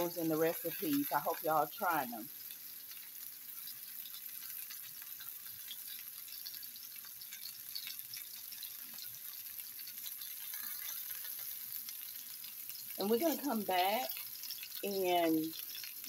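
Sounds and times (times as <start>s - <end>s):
chicken sizzling in a pan: 0.0s - 16.0s
faint crackles: 0.0s - 16.0s.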